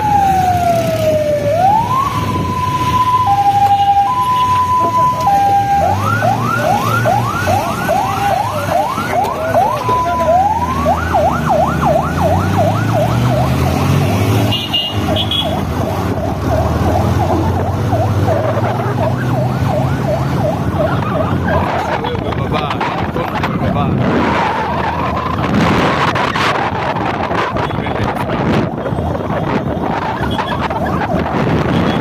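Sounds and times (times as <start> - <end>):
emergency siren yelping: 0.0 - 27.6, 28.4 - 32.0.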